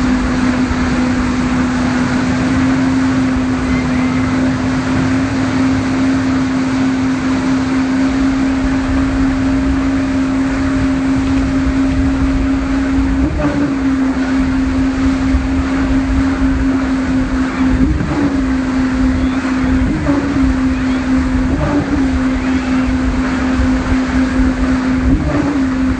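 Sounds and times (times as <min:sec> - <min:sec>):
churning wake water: 0:00.0 - 0:25.9
speedboat engine droning: 0:00.0 - 0:25.9.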